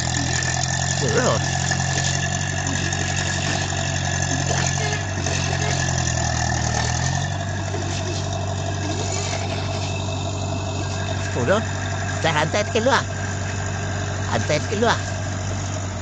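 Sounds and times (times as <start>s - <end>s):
tractor engines idling: 0.0s - 16.0s.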